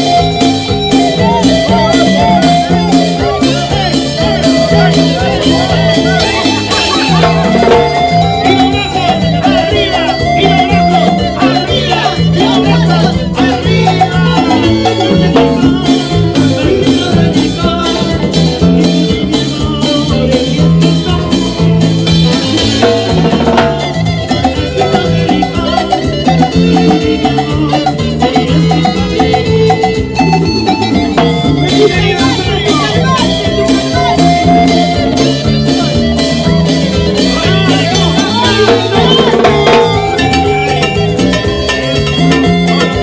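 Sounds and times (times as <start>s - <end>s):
drums and percussion beat: 0.0s - 43.0s
latin dance band playing: 0.0s - 43.0s.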